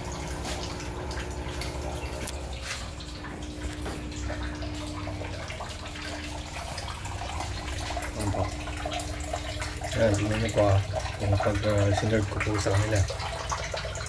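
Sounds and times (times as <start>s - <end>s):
water running: 0.0s - 14.0s.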